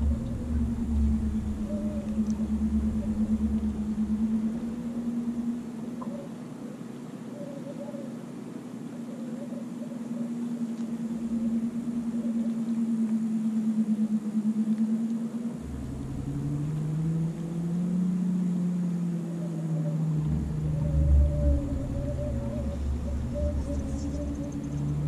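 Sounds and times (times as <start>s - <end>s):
boat motor humming: 0.0s - 6.9s, 9.4s - 25.0s.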